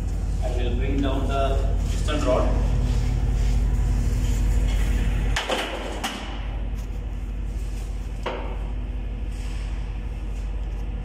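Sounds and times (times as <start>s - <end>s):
engine-room background hum: 0.0s - 11.0s
ship engine low rumble: 0.0s - 11.0s.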